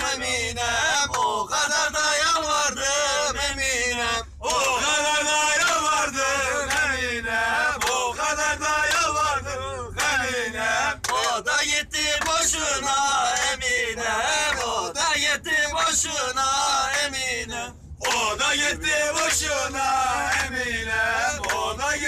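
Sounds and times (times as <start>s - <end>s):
men singing folk song together: 0.0s - 22.0s.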